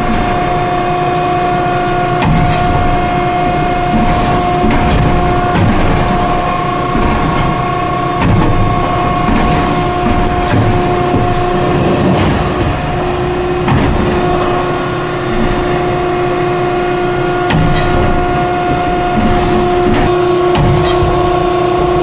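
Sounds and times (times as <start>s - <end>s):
machine whine: 0.0s - 22.0s
machine hisses and knocks: 2.2s - 22.0s
mechanical din: 2.2s - 22.0s.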